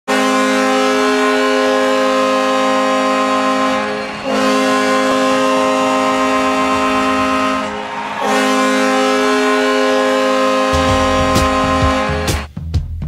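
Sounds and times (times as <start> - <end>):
goal horn blasting: 0.1 - 12.5.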